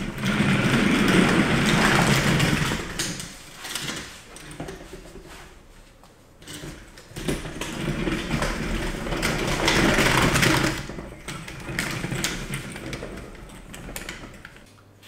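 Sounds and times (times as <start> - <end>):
wheels rolling on wooden floor: 0.0 - 14.7.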